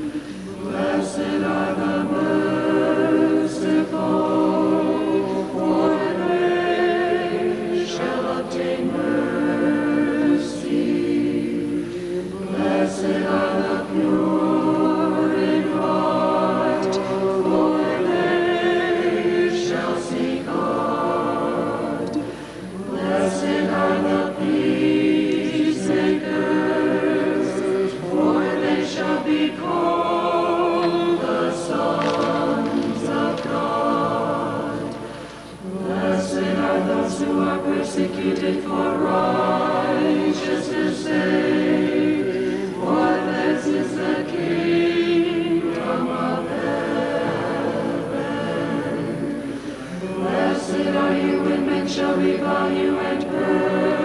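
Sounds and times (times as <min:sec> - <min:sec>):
unaccompanied choir singing: 0:00.0 - 0:54.0.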